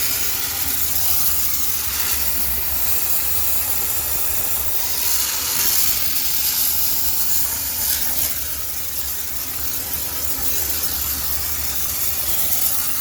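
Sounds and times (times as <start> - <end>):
steam cleaner hissing: 0.0 - 13.0.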